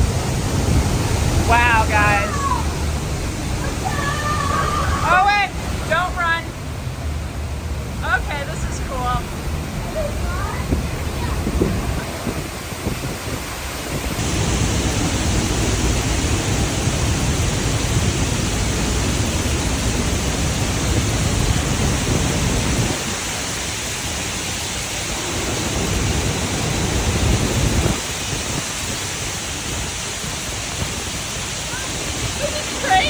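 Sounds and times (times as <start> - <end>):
wind rumble on microphone: 0.0 - 5.1, 8.9 - 33.0
water rushing over dam spillway: 0.0 - 33.0.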